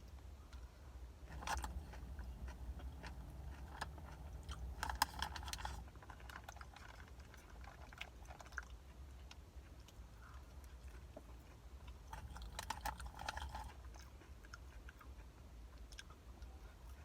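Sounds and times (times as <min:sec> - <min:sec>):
crunchy chewing of corn chips: 0:00.0 - 0:17.0.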